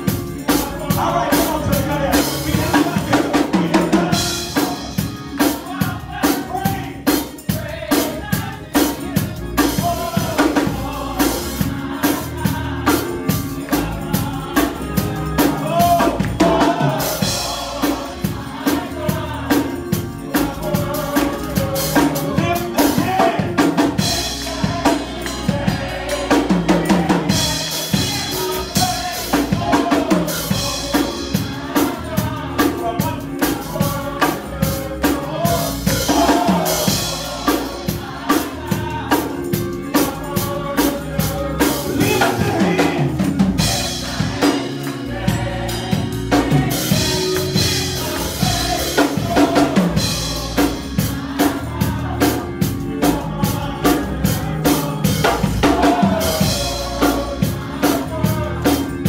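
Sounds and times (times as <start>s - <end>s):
drum kit beat: 0.0s - 59.0s
voices singing: 0.0s - 59.0s.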